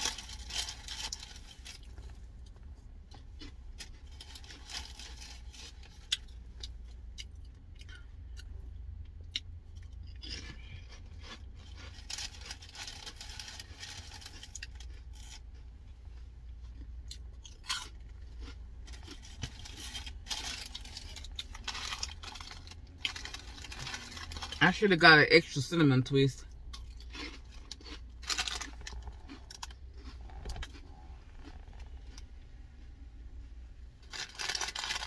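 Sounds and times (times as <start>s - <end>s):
crunchy chewing: 0.0s - 24.6s, 26.5s - 32.8s, 34.0s - 35.0s
steady low hum: 0.0s - 35.0s.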